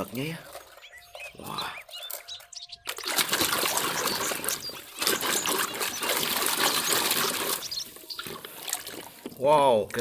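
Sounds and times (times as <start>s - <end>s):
water splashing in a basin: 0.0s - 10.0s.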